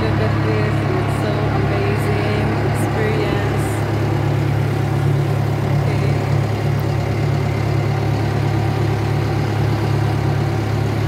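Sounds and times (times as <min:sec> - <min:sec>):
boat engine drone: 0:00.0 - 0:11.0.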